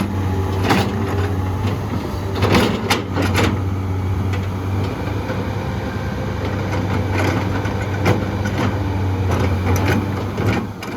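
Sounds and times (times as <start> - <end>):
heavy diesel engine running: 0.0 - 10.9.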